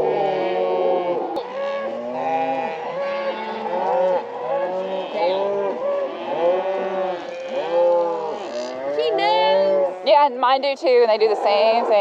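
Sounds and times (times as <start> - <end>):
cattle mooing: 0.0 - 12.0.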